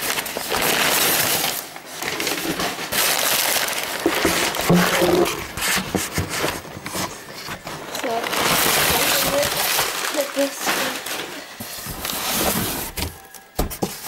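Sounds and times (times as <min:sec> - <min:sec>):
packing paper crinkling and rustling: 0:00.0 - 0:14.0.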